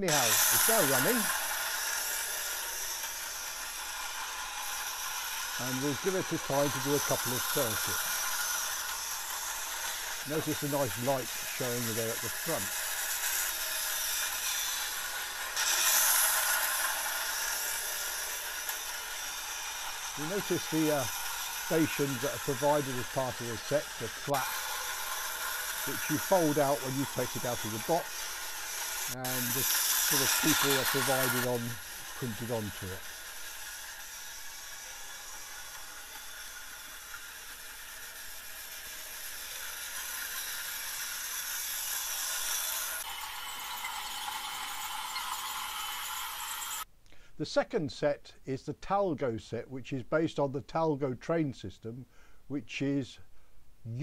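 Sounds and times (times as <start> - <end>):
toy train whirring: 0.0 - 46.9.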